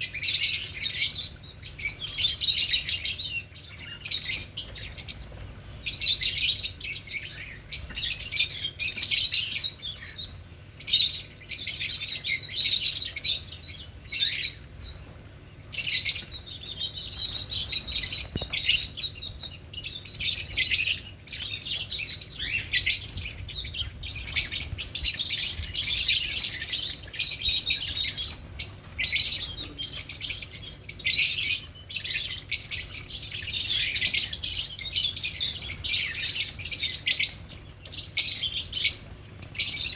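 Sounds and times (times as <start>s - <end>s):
lovebirds chattering: 0.0s - 39.9s.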